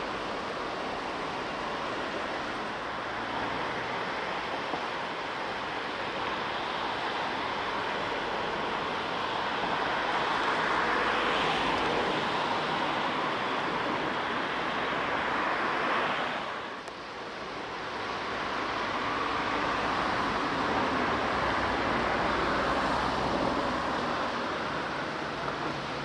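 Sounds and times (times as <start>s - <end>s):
river water rushing over weir: 0.0s - 26.0s.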